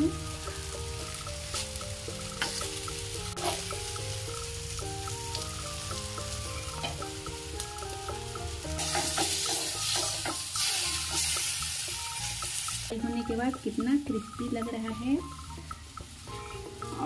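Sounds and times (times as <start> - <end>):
background music: 0.0 - 17.0
food sizzling in oil: 0.0 - 17.0.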